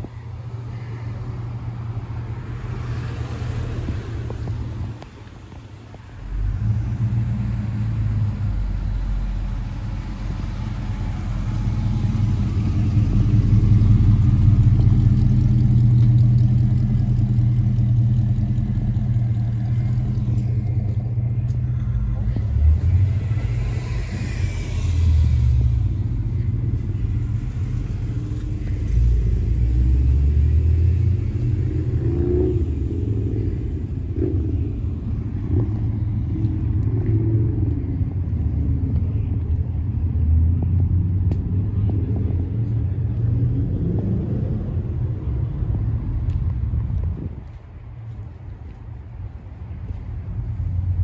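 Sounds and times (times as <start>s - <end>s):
car engine rumbling: 0.0s - 51.0s.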